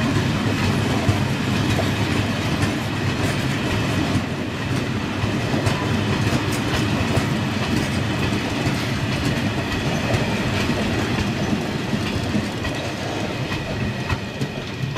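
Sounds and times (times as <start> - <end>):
train wheels clattering over rail joints: 0.0 - 14.9.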